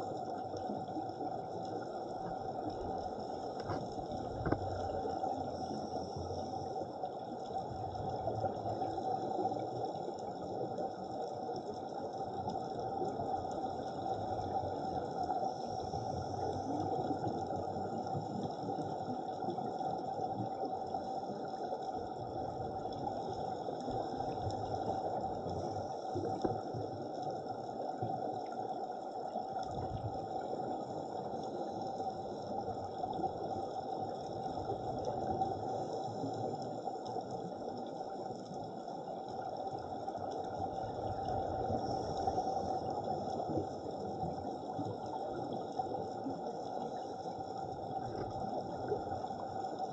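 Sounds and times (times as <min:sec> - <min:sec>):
underwater watery rush: 0:00.0 - 0:49.9.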